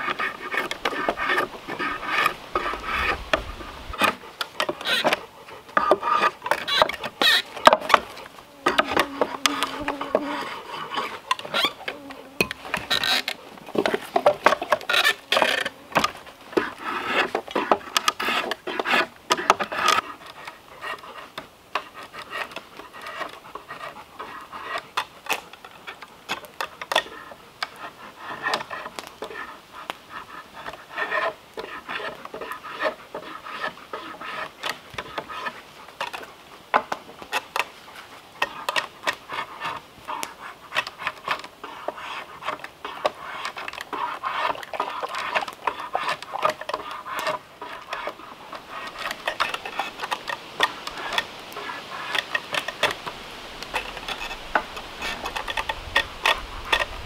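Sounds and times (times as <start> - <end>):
drawknife scraping wood: 0.0 - 57.0.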